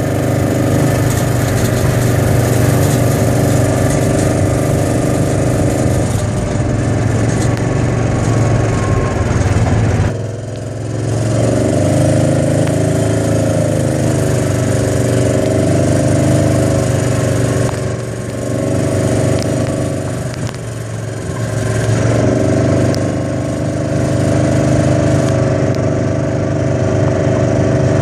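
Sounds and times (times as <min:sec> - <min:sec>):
vehicle engine running at low speed: 0:00.0 - 0:28.0.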